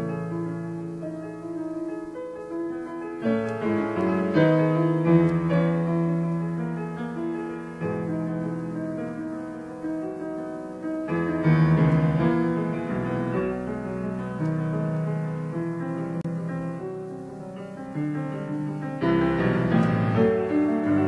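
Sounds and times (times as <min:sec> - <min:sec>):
slow classical piano chords: 0:00.0 - 0:21.0.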